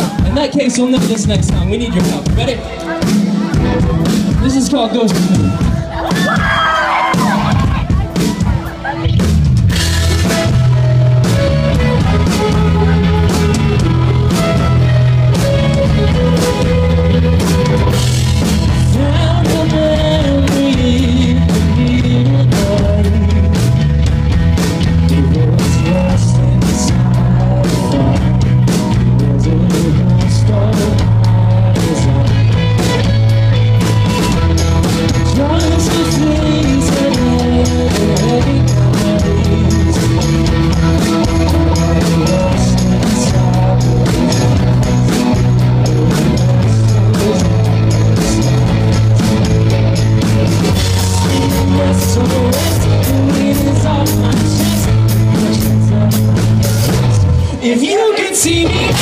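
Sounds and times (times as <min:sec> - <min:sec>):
bass guitar: 0:00.0 - 0:59.0
drum kit beat: 0:00.0 - 0:59.0
electric guitar: 0:00.0 - 0:59.0
rock band playing: 0:00.0 - 0:59.0.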